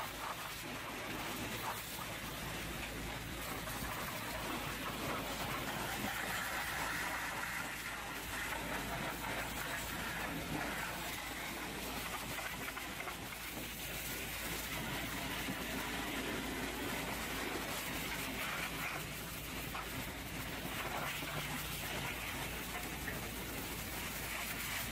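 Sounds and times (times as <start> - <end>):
pressure washer spraying metal: 0.0 - 24.9.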